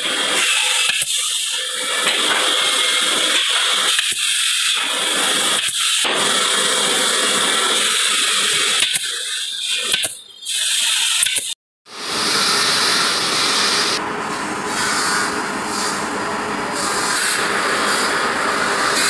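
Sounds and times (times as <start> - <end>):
factory machinery hissing: 0.0 - 19.0.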